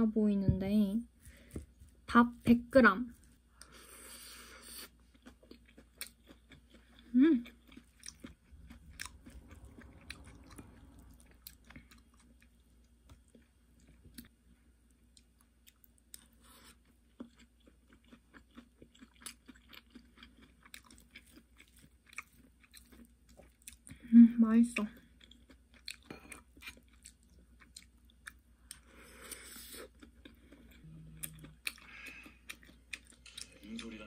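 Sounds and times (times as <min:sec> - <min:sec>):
faint chewing: 0:03.1 - 0:34.0.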